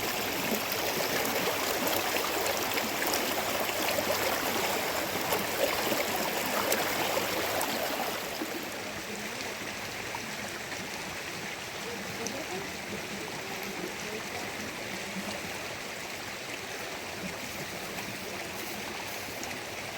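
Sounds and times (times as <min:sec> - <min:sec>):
rushing water: 0:00.0 - 0:19.9.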